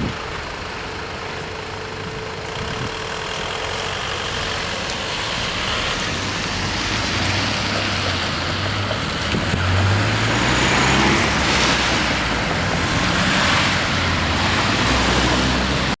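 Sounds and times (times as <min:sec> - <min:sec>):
car engines running: 0:00.0 - 0:16.0
vehicles driving over road: 0:00.0 - 0:16.0.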